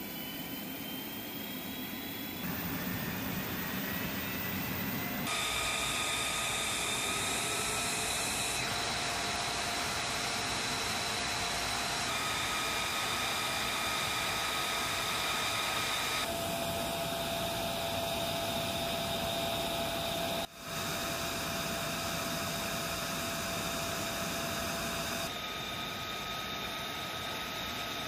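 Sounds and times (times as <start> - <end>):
jet engine whining: 0.0 - 28.0.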